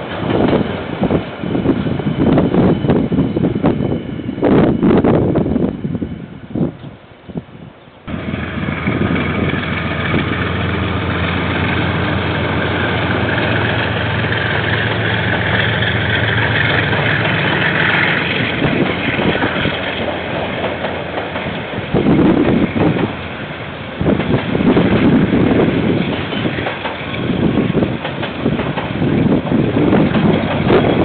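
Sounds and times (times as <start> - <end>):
diesel locomotive running: 0.0 - 31.0
train wagons rolling on rails: 0.0 - 31.0.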